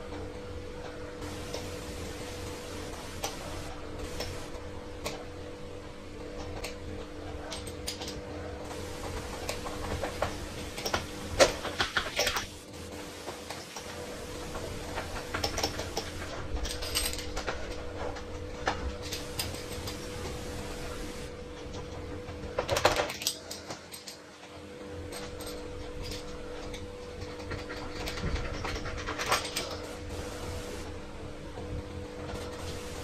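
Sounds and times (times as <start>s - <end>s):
steady low hum: 0.0s - 22.7s, 23.4s - 33.0s.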